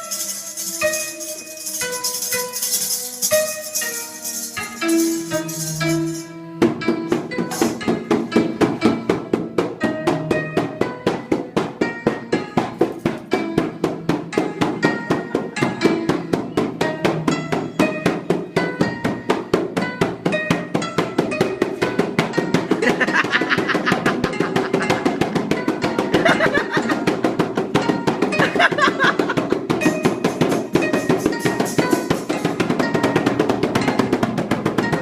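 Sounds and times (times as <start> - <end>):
music with fast drumbeat: 0.0 - 35.0.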